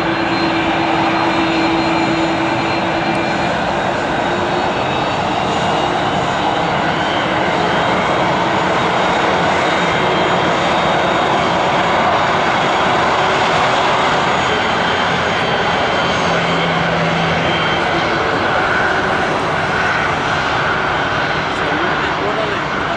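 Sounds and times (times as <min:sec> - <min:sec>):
jet engines rushing: 0:00.0 - 0:22.9.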